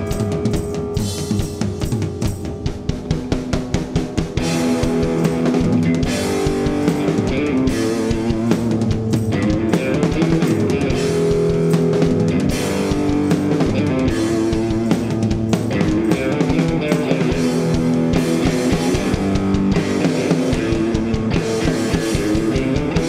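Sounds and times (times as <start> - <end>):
drum kit: 0.0 - 23.0
electric guitar chords: 0.0 - 23.0.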